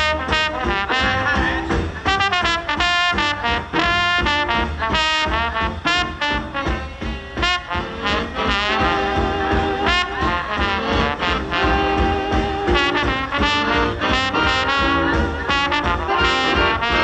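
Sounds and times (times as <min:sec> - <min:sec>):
swing big band music: 0:00.0 - 0:17.0.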